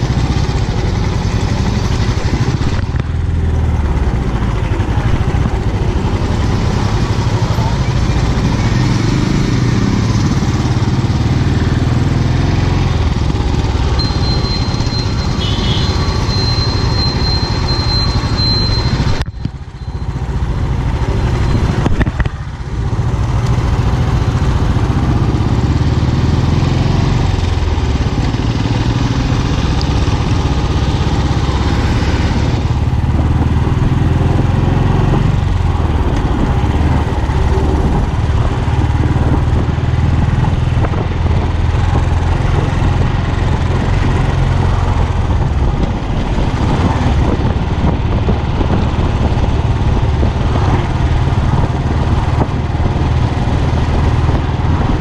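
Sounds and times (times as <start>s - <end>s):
motorcycle engine riding along: 0.0s - 55.0s.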